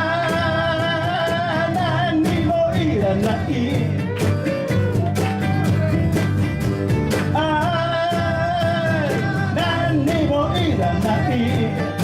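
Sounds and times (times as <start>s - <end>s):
drums keeping a steady beat: 0.0s - 12.0s
live rock band playing: 0.0s - 12.0s.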